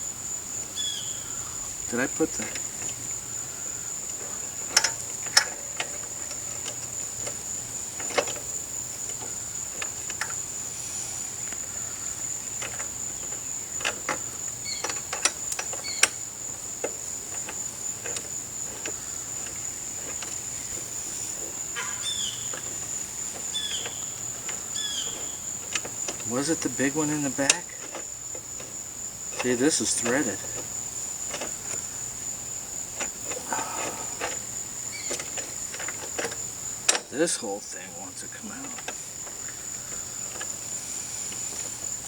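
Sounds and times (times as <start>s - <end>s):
high insect trill: 0.0s - 42.0s.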